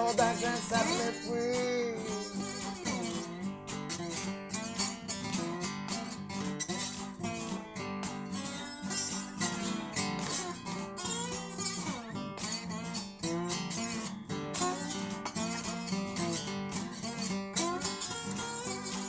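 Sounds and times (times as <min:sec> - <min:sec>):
strummed guitar: 0:00.0 - 0:19.0.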